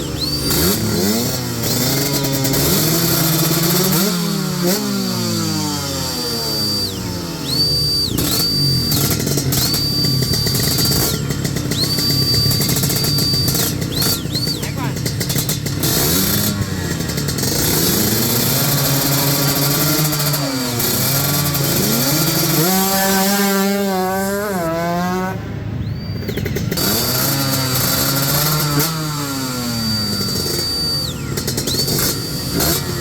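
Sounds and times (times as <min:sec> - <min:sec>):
racing motorcycle engines revving: 0:00.0 - 0:33.0.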